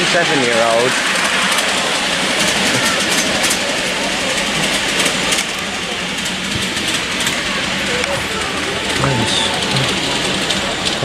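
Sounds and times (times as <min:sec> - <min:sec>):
people talking: 0:00.0 - 0:01.0, 0:01.7 - 0:11.0
miniature train rumbling: 0:00.0 - 0:11.0
wheels clicking over rail joints: 0:00.0 - 0:11.0.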